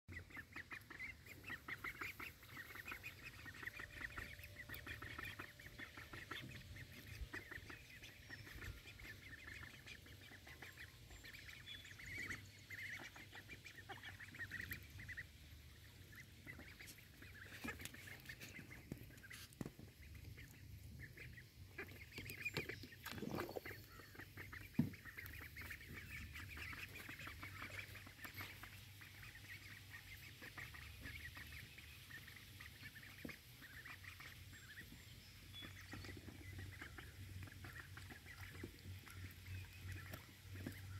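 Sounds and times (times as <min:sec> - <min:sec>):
ducklings peeping: 0:00.1 - 0:40.9
bills dabbling in water: 0:00.2 - 0:40.9.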